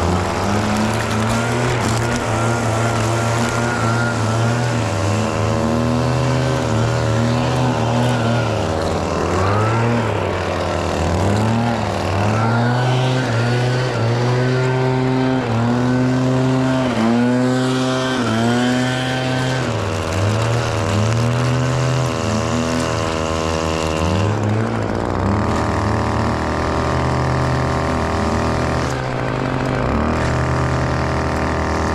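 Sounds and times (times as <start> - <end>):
string trimmer running: 0.0 - 31.9.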